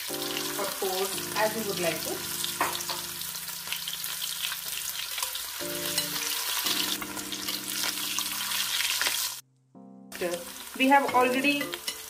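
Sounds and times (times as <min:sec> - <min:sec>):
potatoes deep-frying in oil: 0:00.0 - 0:09.4, 0:10.2 - 0:12.0.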